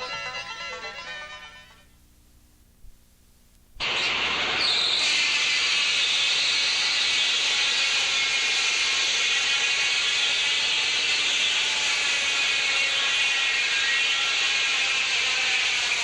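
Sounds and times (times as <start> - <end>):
music: 0.0 - 1.9, 3.8 - 16.0
loud steady hiss: 1.6 - 16.0.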